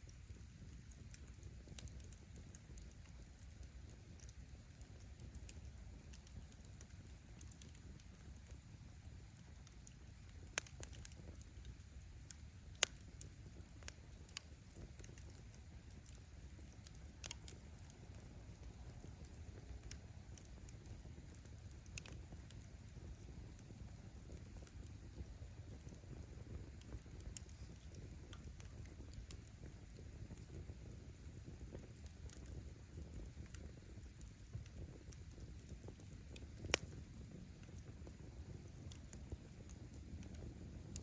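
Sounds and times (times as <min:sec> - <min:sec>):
bonfire flames burning: 0:00.0 - 0:41.0
firewood popping and crackling: 0:00.0 - 0:41.0.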